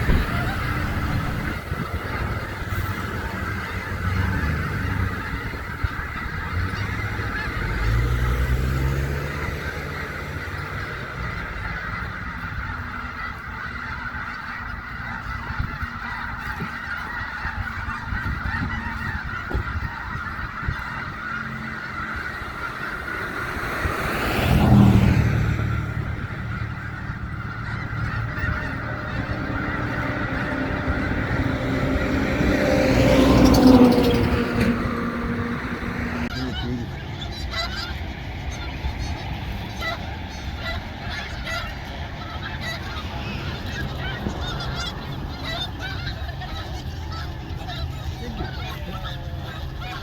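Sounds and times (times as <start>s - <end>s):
geese honking: 0.0s - 50.0s
vehicle passing close by: 0.0s - 50.0s.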